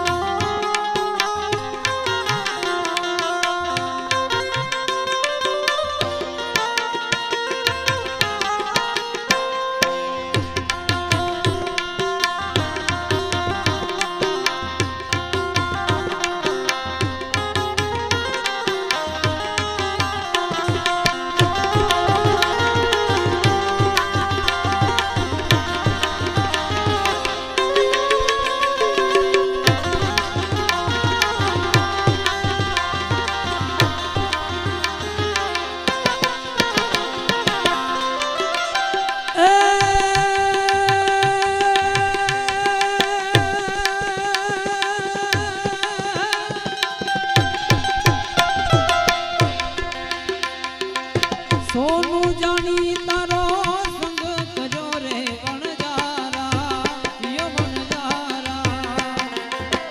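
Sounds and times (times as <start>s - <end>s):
harmonium melody: 0.0s - 59.9s
tabla rhythm: 0.0s - 59.9s.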